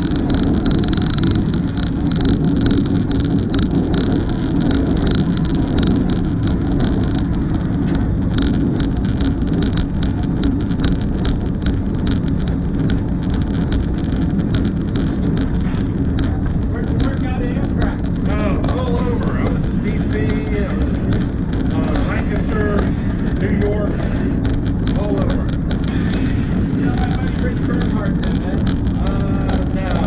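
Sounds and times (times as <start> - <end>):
locomotive rumbling: 0.0 - 30.0
track clicks and rattles: 0.0 - 30.0.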